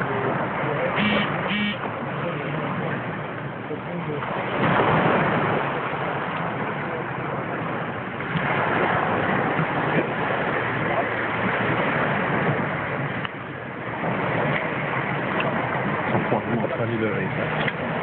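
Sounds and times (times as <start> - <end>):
waves washing over pebbles: 0.0 - 18.0.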